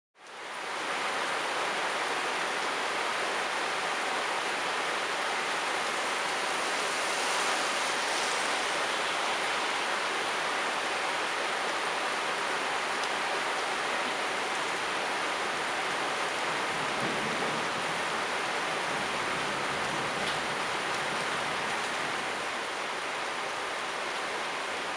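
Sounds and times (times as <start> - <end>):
rain on grass and leaves: 0.2 - 24.9.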